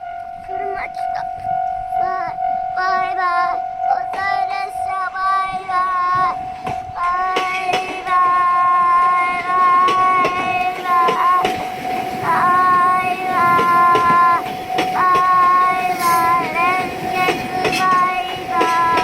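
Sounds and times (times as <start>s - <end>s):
child singing long notes: 0.0s - 19.0s.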